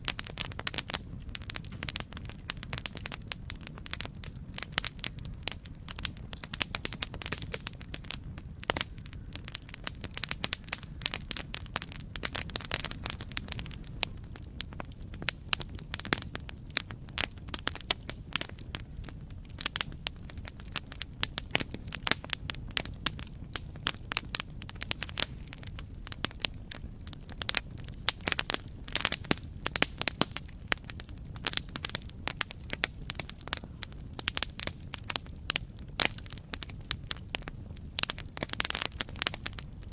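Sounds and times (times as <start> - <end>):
low rumble of flames: 0.0 - 39.9.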